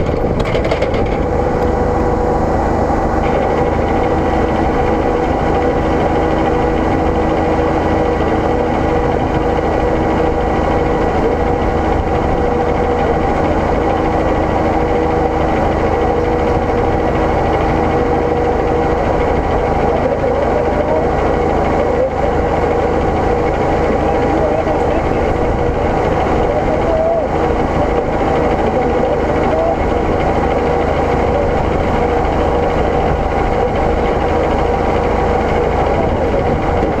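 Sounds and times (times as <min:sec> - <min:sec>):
vehicle engine droning: 0:00.0 - 0:37.0.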